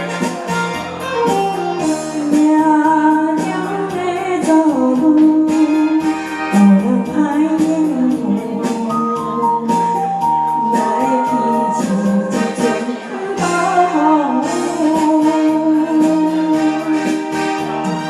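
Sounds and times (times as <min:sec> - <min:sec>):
pop ballad backing music: 0:00.0 - 0:18.0
woman singing: 0:01.8 - 0:18.0.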